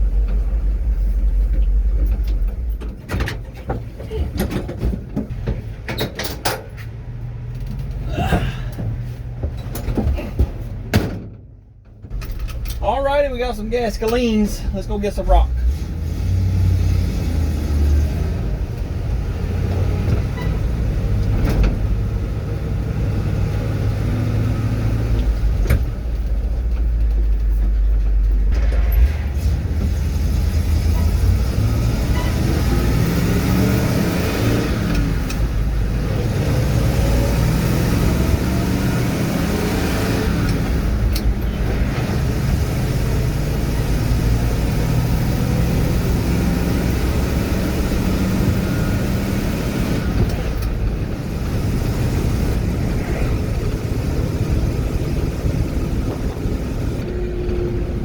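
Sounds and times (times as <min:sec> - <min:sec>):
truck engine driving: 0:00.0 - 0:58.0.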